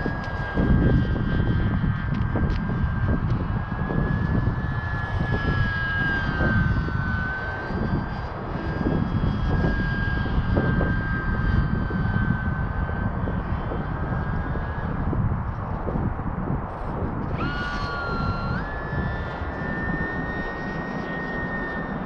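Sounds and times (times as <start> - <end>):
rc plane motor and propeller whining: 0.0 - 22.0
wind buffeting microphone: 0.0 - 22.0.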